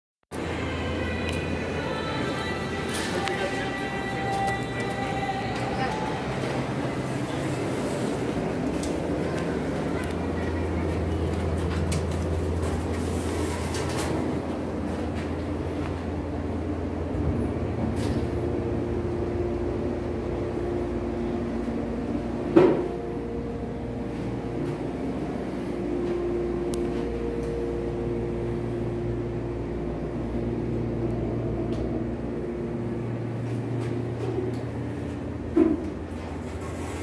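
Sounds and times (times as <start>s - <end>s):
elevator mechanical hum: 0.3s - 37.0s.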